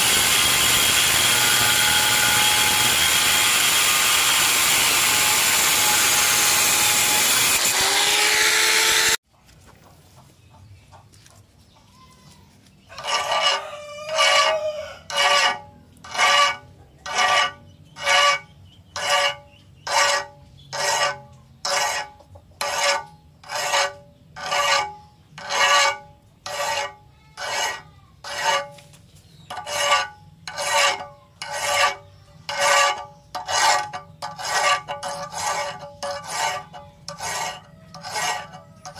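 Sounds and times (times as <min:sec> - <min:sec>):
angle grinder grinding steel: 0:00.0 - 0:09.2, 0:12.9 - 0:28.8, 0:29.5 - 0:38.9
file rasping on steel: 0:00.0 - 0:09.2, 0:12.9 - 0:28.8, 0:29.5 - 0:38.9.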